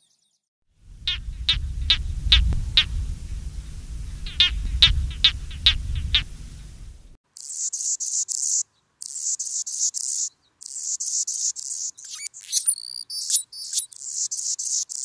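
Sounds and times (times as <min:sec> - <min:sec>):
insects chirping: 0:00.9 - 0:15.0.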